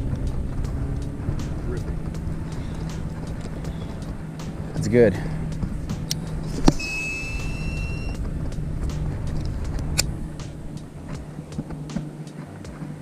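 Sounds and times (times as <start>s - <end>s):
boat motor humming: 0.0s - 13.0s
high whine: 0.0s - 13.0s.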